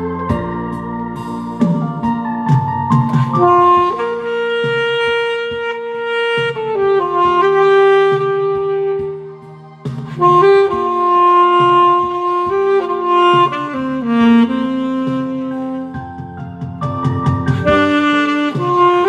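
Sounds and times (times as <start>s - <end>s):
backing track with bass: 0.0s - 19.0s
saxophone melody: 0.0s - 19.0s.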